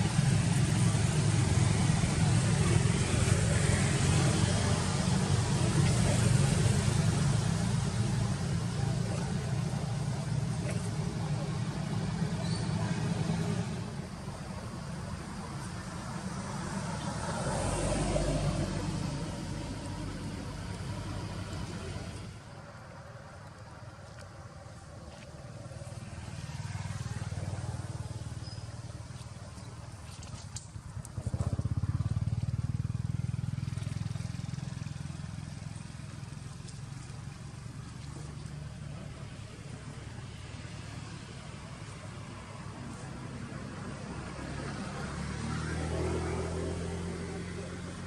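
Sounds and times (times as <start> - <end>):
vehicle engine passing by: 0.0 - 22.5, 25.4 - 48.0
low outdoor rumble: 0.0 - 45.0.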